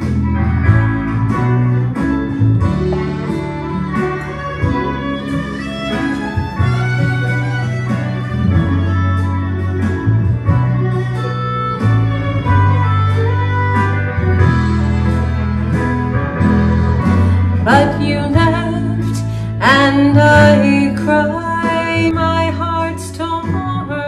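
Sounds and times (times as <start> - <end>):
bass line: 0.0 - 24.0
plucked guitar: 0.0 - 24.0
sliding lead guitar line: 0.0 - 24.0.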